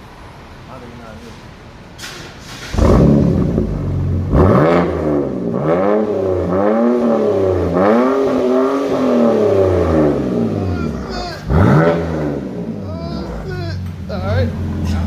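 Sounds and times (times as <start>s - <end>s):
car engine starting and revving: 2.0s - 15.0s.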